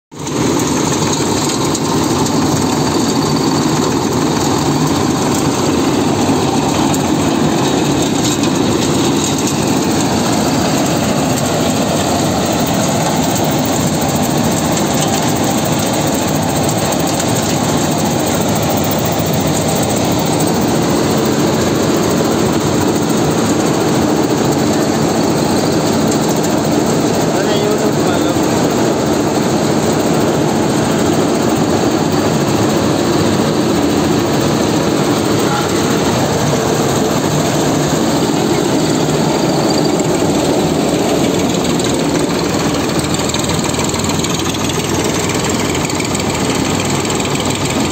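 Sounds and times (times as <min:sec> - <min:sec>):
tractor-driven machine running: 0:00.1 - 0:47.9.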